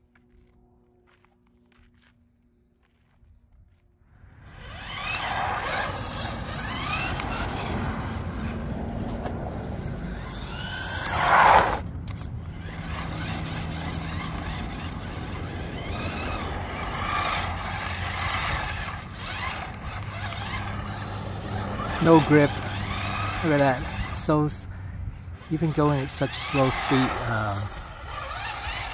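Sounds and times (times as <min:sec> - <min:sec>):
toy car motor whining: 0:04.4 - 0:28.9.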